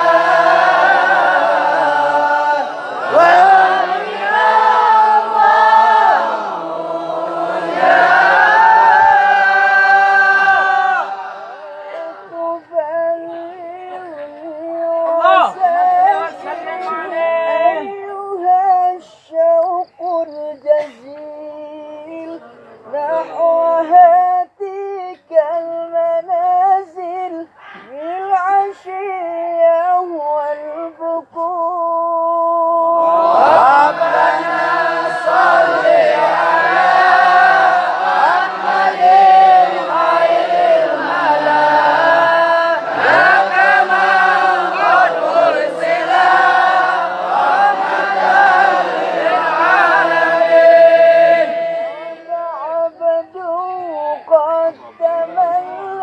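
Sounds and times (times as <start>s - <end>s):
group of voices singing: 0.0s - 24.2s, 29.6s - 56.0s
solo voice chanting: 0.0s - 56.0s.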